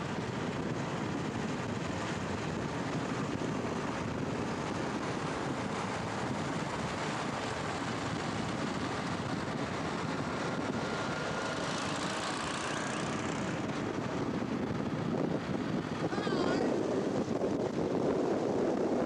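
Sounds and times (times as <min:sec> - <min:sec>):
vehicle running noise: 0:00.0 - 0:19.0
wind rushing over microphone: 0:00.0 - 0:19.0.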